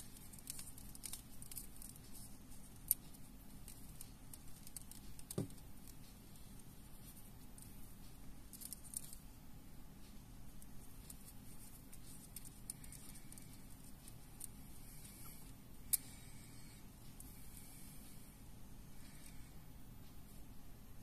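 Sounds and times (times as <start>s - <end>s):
fingers handling thread: 0.0s - 9.3s, 10.0s - 18.2s
steady low hum: 0.0s - 21.0s.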